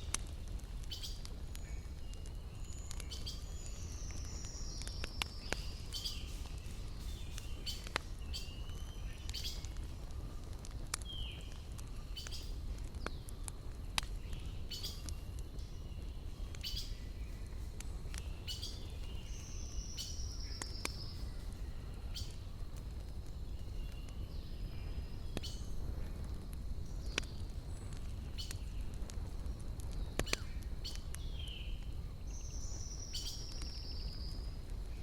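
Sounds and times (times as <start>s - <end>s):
campfire crackling and popping: 0.0s - 35.0s
birds singing: 0.8s - 9.8s, 11.0s - 22.5s, 26.8s - 29.2s, 29.9s - 35.0s.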